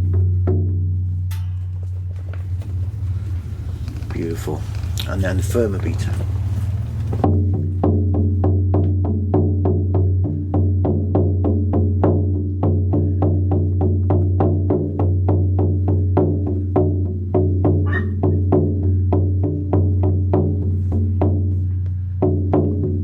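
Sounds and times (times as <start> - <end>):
frame drum beaten: 0.0 - 23.0.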